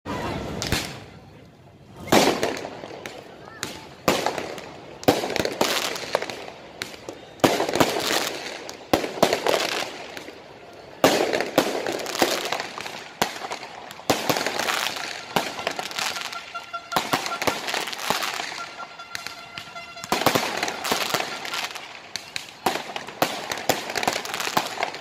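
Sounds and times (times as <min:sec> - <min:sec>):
fireworks bangs with crackling: 0:00.5 - 0:01.1, 0:02.0 - 0:25.0.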